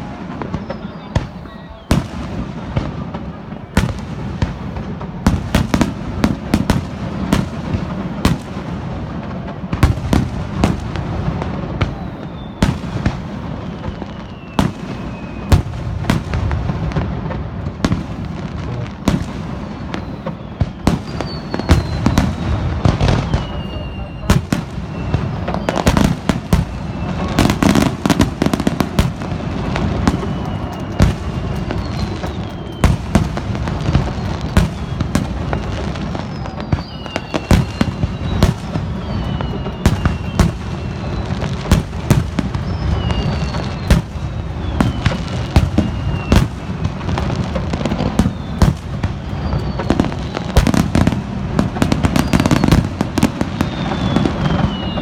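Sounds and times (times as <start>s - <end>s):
high whistles falling in pitch: 0.0s - 3.0s, 9.8s - 17.0s, 19.1s - 55.0s
fireworks bursts and booms: 0.0s - 55.0s.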